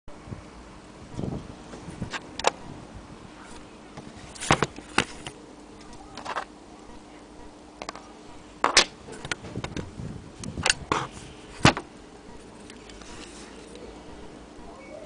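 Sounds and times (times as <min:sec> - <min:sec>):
faint steady hum: 0:00.1 - 0:15.0.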